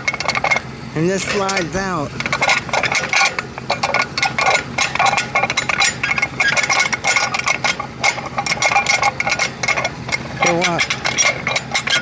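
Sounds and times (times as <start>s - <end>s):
metal clicks and clanks: 0.0s - 12.0s.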